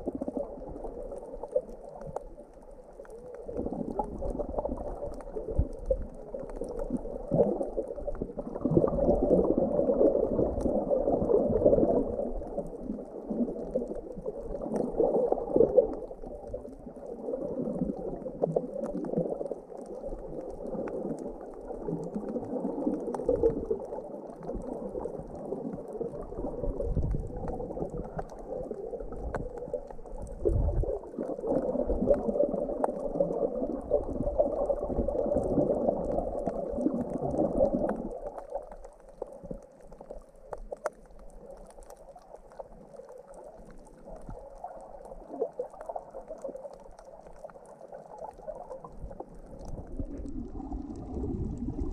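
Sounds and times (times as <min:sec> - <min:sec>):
muffled underwater water sloshing: 0:00.0 - 0:51.9.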